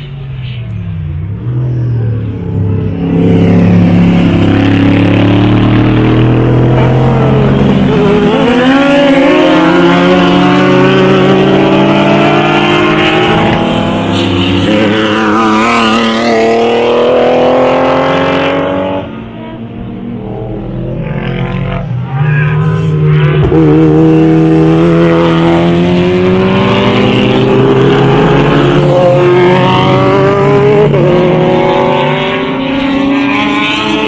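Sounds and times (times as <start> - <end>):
race cars passing at full throttle: 0.0 - 34.0.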